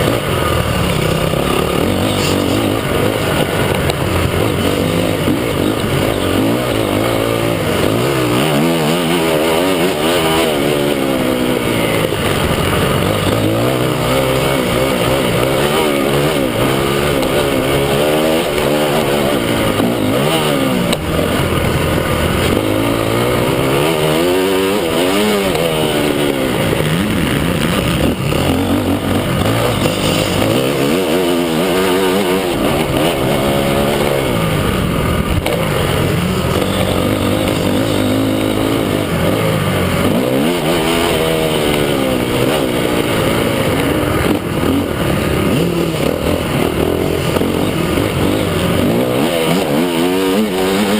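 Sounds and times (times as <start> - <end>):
motocross bike engines revving: 0.0 - 50.9.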